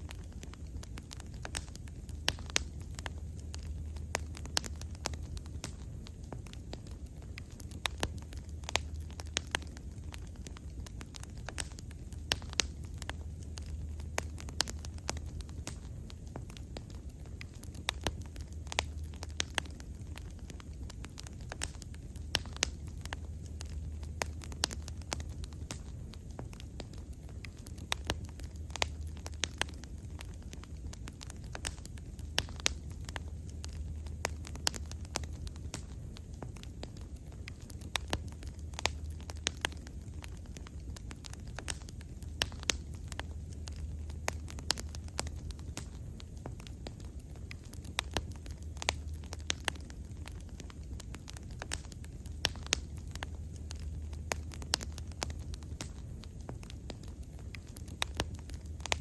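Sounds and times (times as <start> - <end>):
bonfire crackling and popping: 0.0 - 59.0
low rumble of flames: 0.0 - 59.0.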